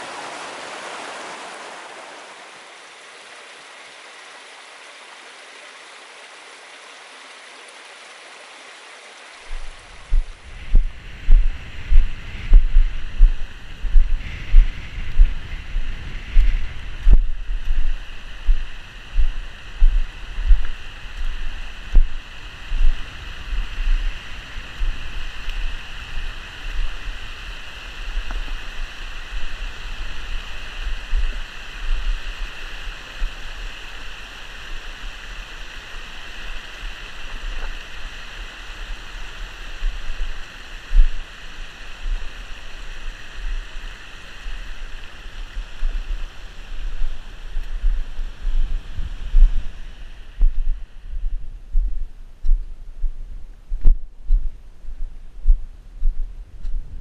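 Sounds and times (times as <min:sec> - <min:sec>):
stream rushing over stones: 0:00.0 - 0:15.4, 0:16.4 - 0:50.4
wind buffeting microphone: 0:09.5 - 0:35.7, 0:36.5 - 0:57.0.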